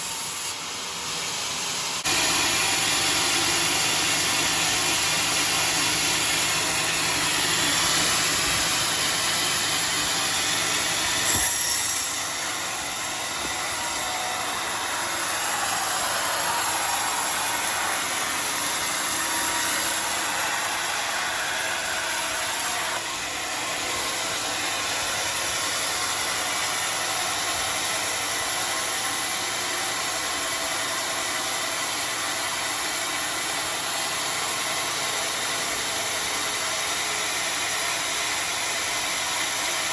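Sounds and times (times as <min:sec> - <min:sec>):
sawmill sawing a log: 0:00.0 - 0:39.9.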